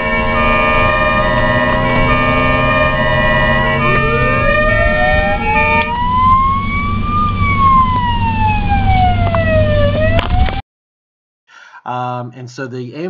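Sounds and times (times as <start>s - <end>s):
ambulance siren wailing: 0.0s - 10.6s
low engine hum: 0.0s - 10.6s.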